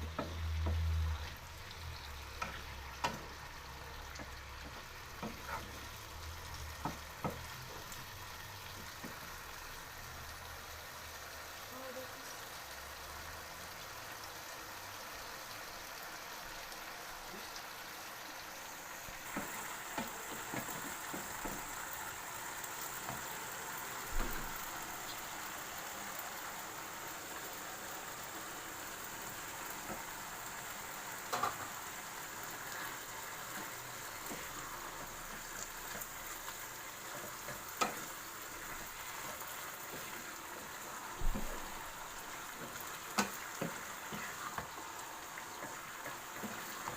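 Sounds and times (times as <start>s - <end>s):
food sizzling in a pan: 0.0s - 46.9s.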